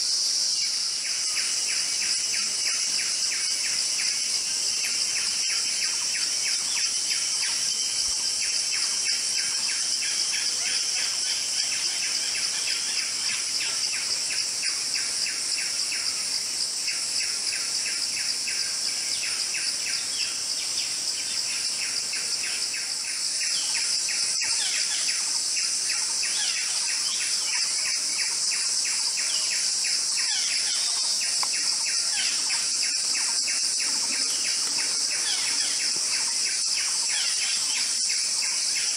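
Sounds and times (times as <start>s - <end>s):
high-pitched insect drone: 0.0s - 38.9s
small birds chirping: 0.7s - 38.9s.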